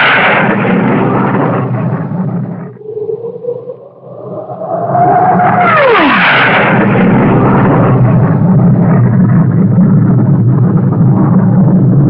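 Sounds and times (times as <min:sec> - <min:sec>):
jet engine whine: 0:00.0 - 0:12.0
jet roar: 0:00.0 - 0:12.0.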